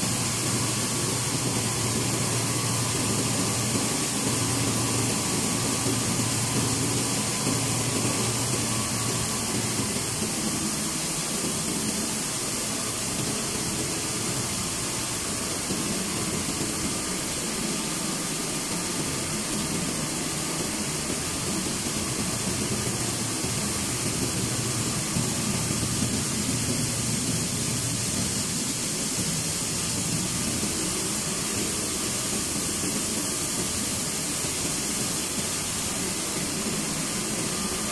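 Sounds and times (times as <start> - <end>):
faint machine whine: 0.0 - 37.9
machine hiss: 0.0 - 37.9.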